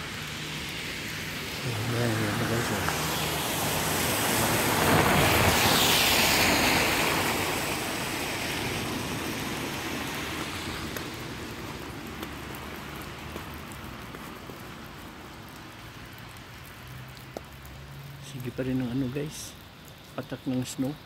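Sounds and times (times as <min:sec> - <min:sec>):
vehicle passing on wet road: 0:00.0 - 0:21.0.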